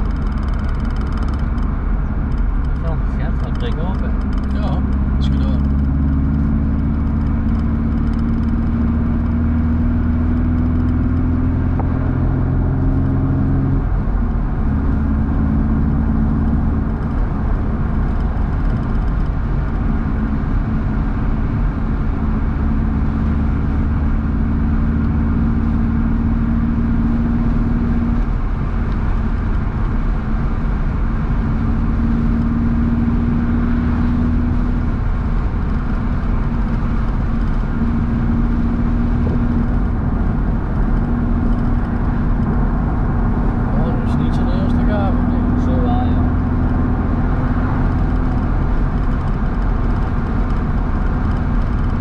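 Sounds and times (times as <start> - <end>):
car engine cruising: 0.0 - 52.0
road and wind noise: 0.0 - 52.0.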